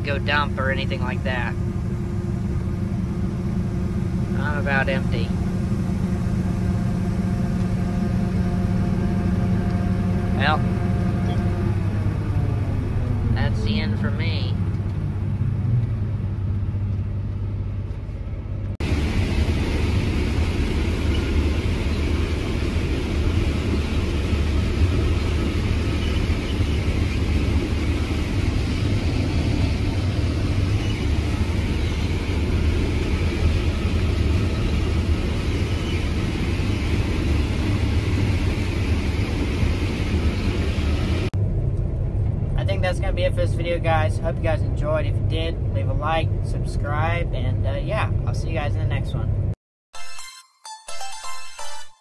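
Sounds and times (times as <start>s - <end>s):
heavy machinery engine running: 0.0s - 48.1s.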